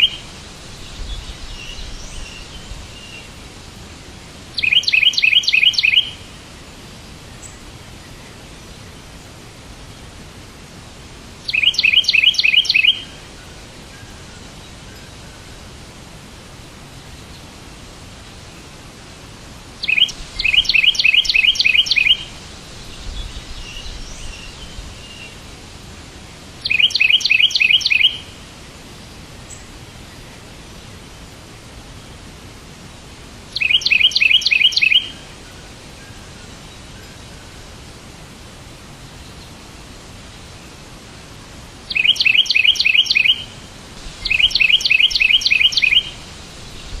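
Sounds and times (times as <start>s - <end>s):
songbird chirping: 0.0s - 10.3s, 11.3s - 15.9s, 16.5s - 47.0s
background hiss: 0.0s - 47.0s.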